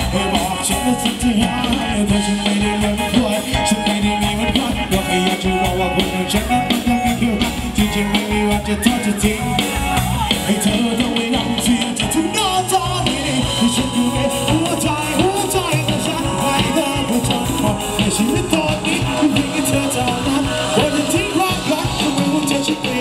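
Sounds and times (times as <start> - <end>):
drum kit beat: 0.0 - 23.0
live band playing latin dance music: 0.0 - 23.0
person singing: 0.0 - 23.0.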